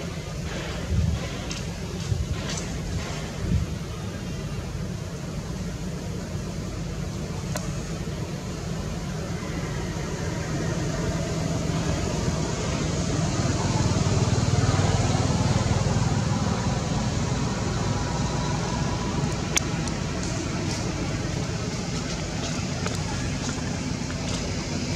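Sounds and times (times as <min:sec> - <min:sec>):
low engine rumble: 0:00.0 - 0:24.9.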